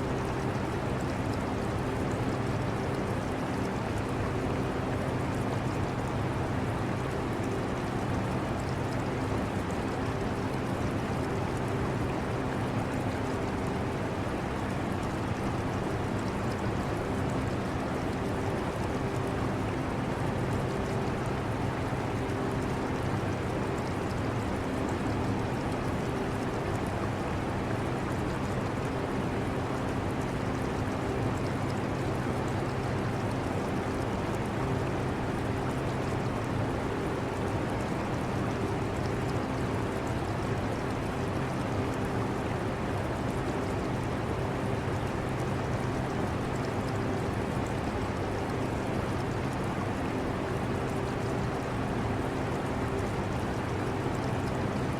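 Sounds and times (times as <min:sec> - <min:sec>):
aquarium water bubbling: 0:00.1 - 0:54.9.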